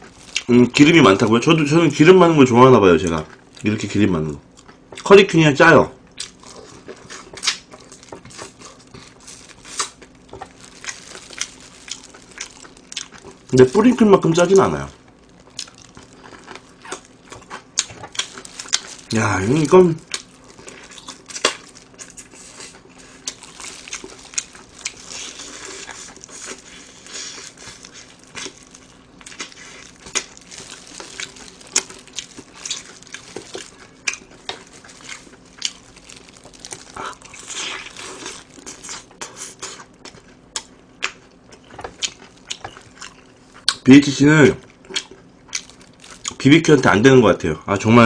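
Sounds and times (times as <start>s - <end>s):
crunchy fried chicken eating: 0.0s - 1.6s, 6.1s - 46.8s.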